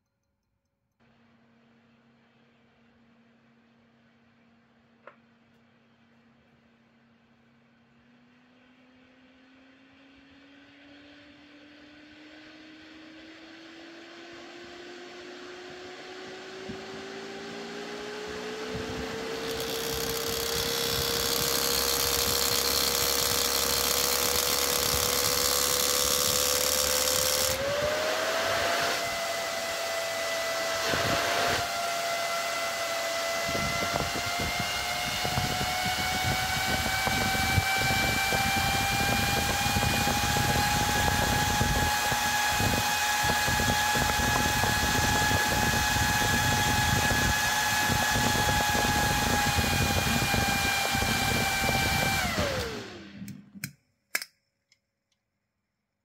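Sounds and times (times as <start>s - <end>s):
fan air rush: 5.9s - 53.3s
motor whine rising in pitch: 7.2s - 53.4s.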